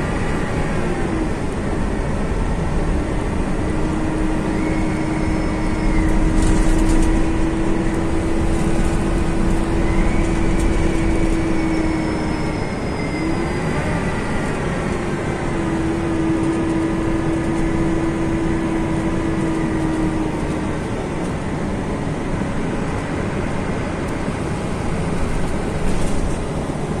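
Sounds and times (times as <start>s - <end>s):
diesel coach engine rumble: 0.0s - 27.0s
road noise: 0.0s - 27.0s
steady whine: 0.0s - 27.0s.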